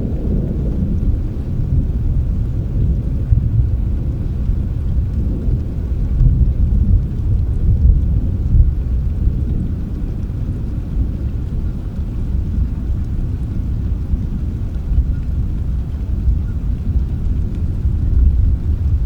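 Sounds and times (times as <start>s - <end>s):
faint rain patter: 0.0s - 19.0s
rolling thunder rumble: 0.0s - 19.0s.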